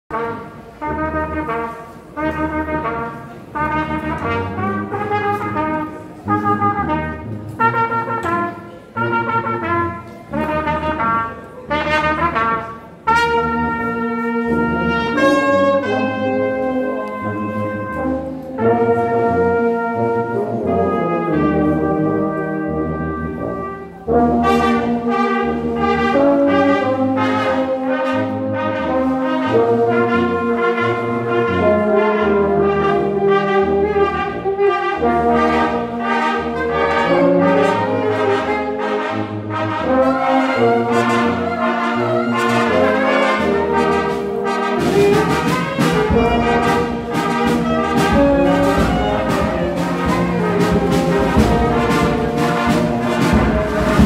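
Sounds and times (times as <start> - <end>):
brass band playing: 0.1 - 54.0.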